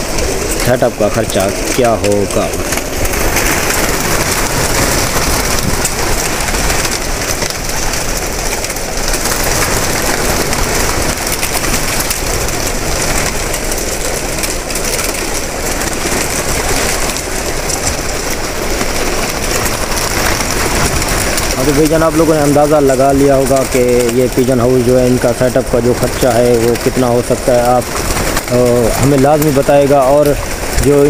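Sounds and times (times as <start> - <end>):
pigeon wings fluttering: 0.0 - 31.0
pigeons calling: 0.0 - 31.0.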